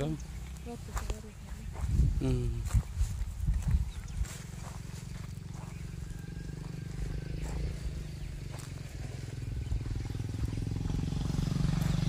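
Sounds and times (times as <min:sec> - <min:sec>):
small engine rumbling: 0:00.0 - 0:12.0.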